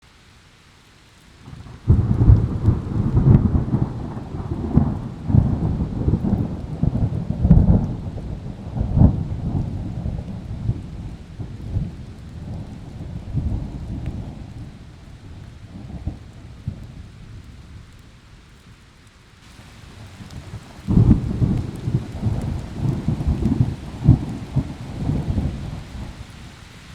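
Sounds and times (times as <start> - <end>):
hard rain: 0.0 - 26.9
thunder crack and rumble: 1.4 - 17.6, 19.5 - 26.5.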